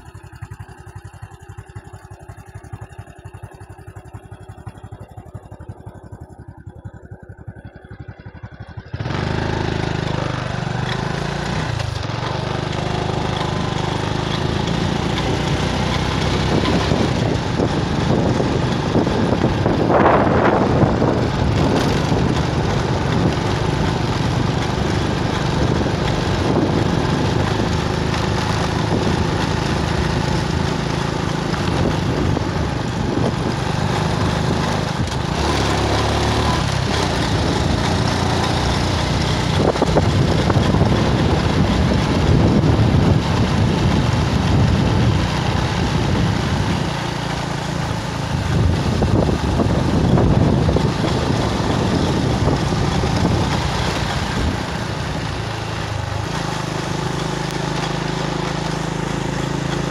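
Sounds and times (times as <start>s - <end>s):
vehicle engine running: 0.0s - 59.9s
wind and road noise: 0.0s - 59.9s.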